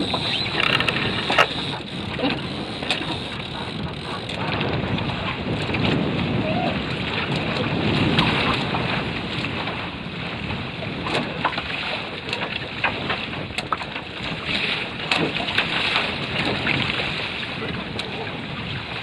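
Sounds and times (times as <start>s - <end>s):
water rushing along hull: 0.0s - 19.0s
waves slapping hull: 0.0s - 19.0s
wind buffeting microphone: 0.0s - 19.0s.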